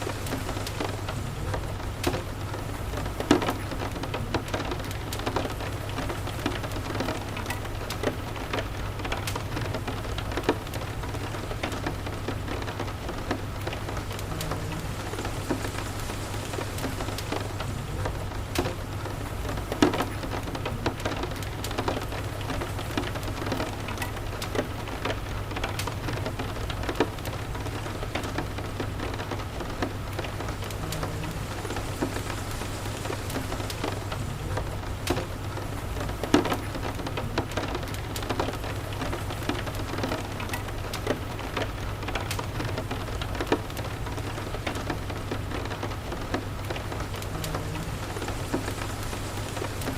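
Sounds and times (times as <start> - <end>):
steady rain: 0.0 - 49.9
wood fire crackling and popping: 0.0 - 49.9.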